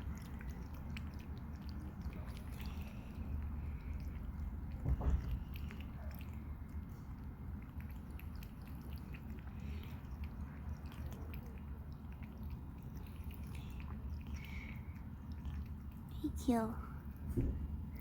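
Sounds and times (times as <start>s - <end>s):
cat lapping water: 0.0s - 18.0s.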